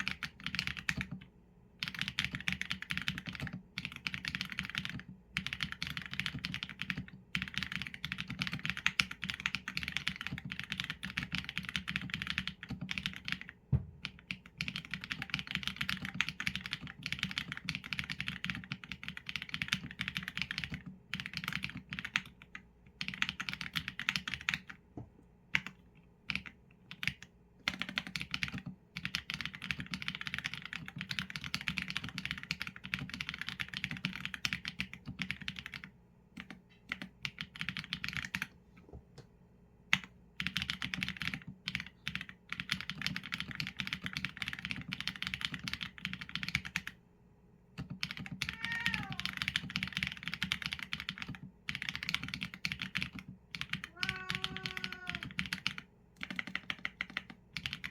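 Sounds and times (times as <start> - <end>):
mechanical keyboard typing: 0.0 - 24.8, 25.5 - 38.5, 39.9 - 47.0, 47.8 - 57.9.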